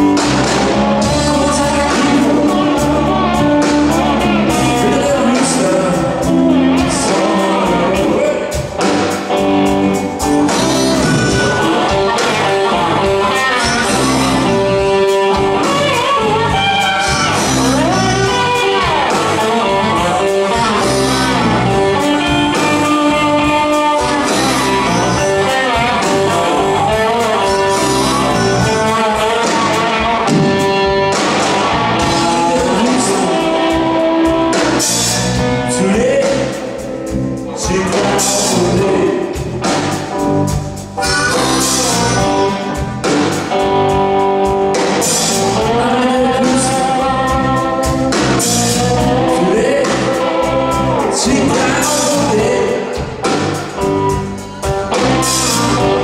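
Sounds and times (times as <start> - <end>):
bass guitar: 0.0 - 56.0
drum kit: 0.0 - 56.0
electric guitar: 0.0 - 56.0
man singing: 0.2 - 9.1, 10.4 - 30.9, 31.7 - 39.9, 45.0 - 54.1.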